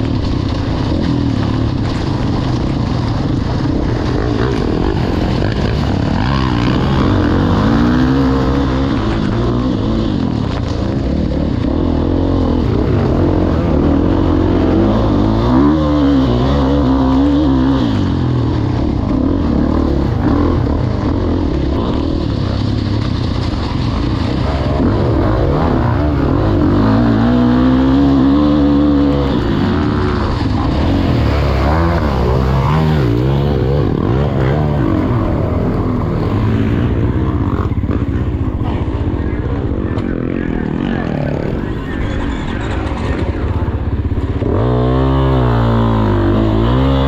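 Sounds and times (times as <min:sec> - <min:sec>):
motocross bike engine revving: 0:00.0 - 0:47.0
wind and track noise: 0:00.0 - 0:47.0.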